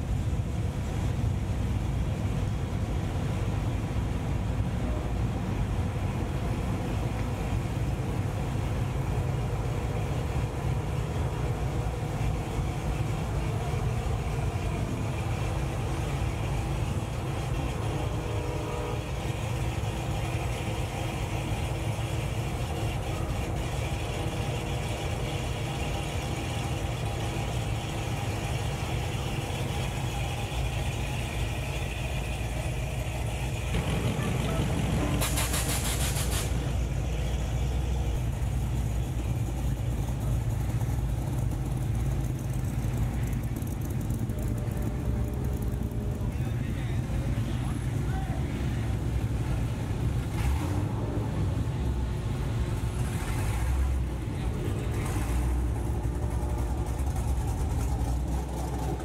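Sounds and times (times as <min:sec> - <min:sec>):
pickup truck engines cruising: 0:00.0 - 0:59.0.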